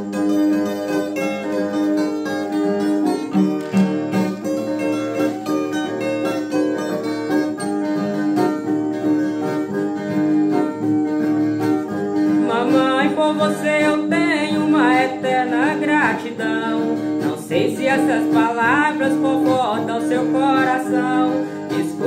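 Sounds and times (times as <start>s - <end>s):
acoustic guitar strumming chords: 0.0s - 22.0s
plucked string melody: 0.0s - 22.0s.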